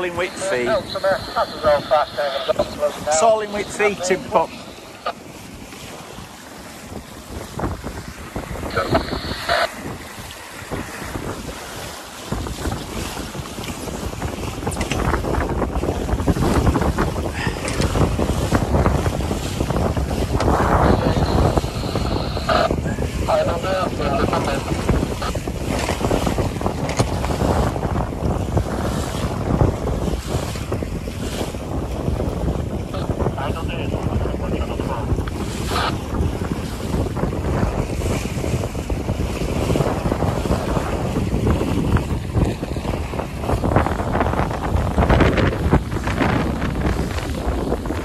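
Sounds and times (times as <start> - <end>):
water splashing along boat hull: 0.0 - 48.0
wind buffeting microphone: 0.0 - 48.0.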